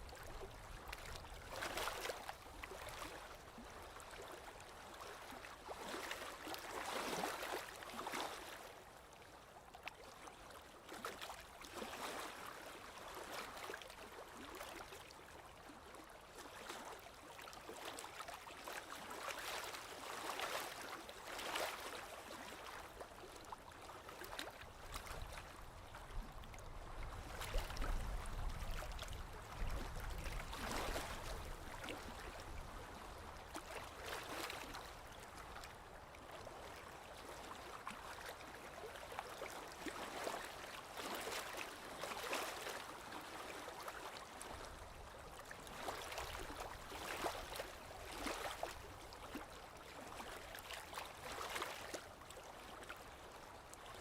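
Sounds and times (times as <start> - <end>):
waves lapping against shore: 0.0 - 54.0.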